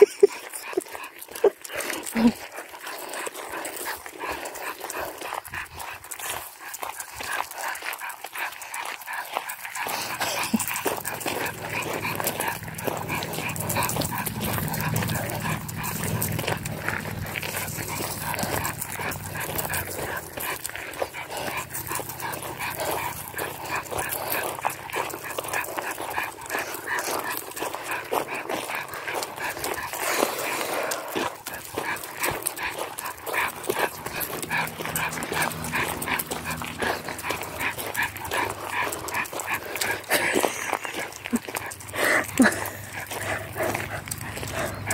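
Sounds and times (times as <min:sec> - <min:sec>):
footsteps on gravel: 0:00.0 - 0:44.9.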